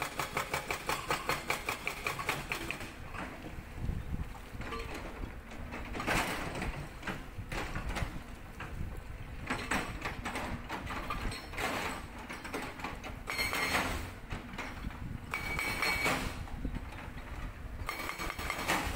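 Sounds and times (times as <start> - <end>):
excavator engine rumble: 0.0 - 18.9.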